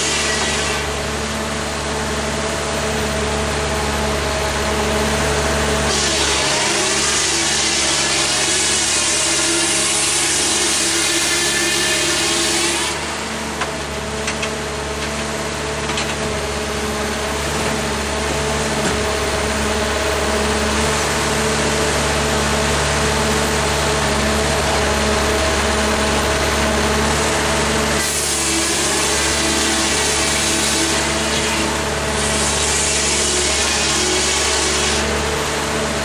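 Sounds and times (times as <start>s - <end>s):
sawmill engine humming: 0.0s - 36.0s.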